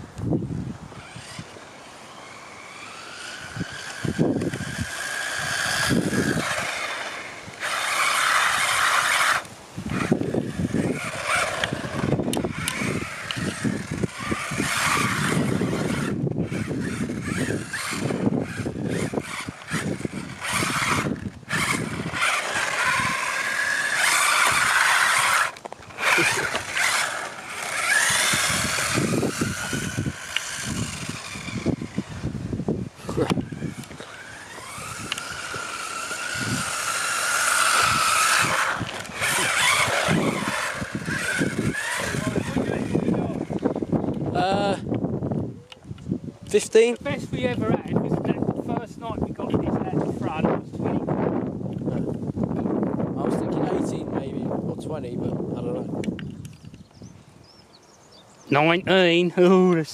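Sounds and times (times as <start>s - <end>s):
electric motor whining: 0.1s - 57.2s.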